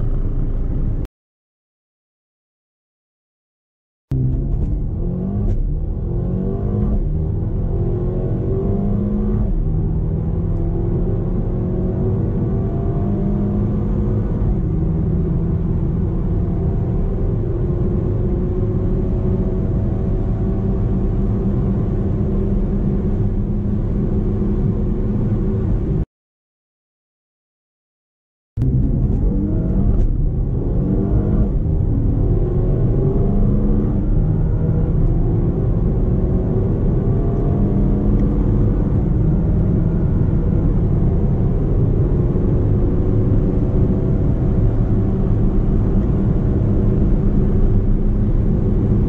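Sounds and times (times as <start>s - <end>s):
car engine at full throttle: 0.0s - 1.1s, 4.1s - 26.0s, 28.6s - 49.0s
road rumble: 0.0s - 1.1s, 4.1s - 26.0s, 28.6s - 49.0s.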